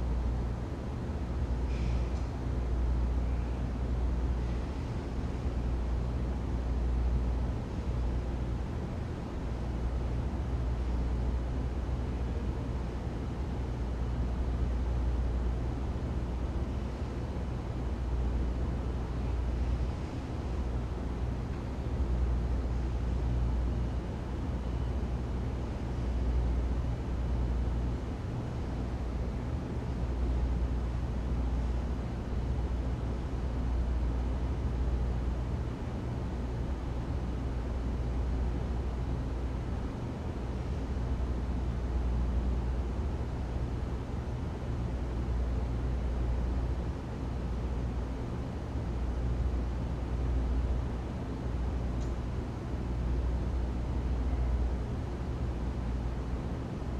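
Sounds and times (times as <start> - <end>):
ventilation fan hiss: 0.0 - 56.9.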